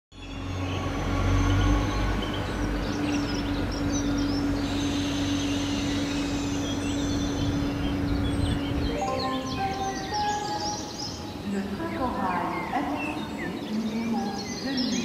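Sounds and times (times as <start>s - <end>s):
birds chirping: 0.2s - 15.0s
train engine droning: 0.2s - 15.0s.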